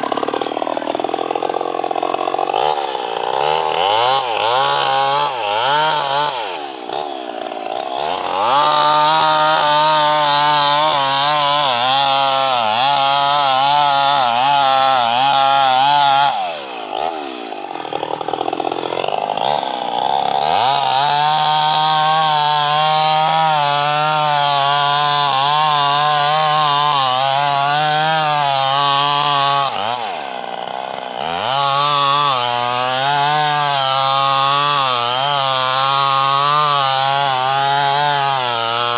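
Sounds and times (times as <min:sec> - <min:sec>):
chainsaw cutting into wood: 0:00.0 - 0:38.9.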